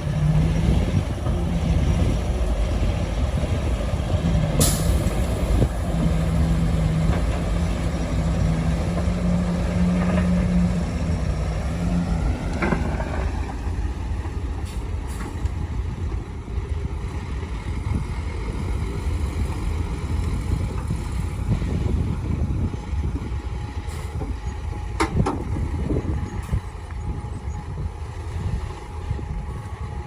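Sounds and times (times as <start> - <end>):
diesel machinery rumbling: 0.0 - 30.0.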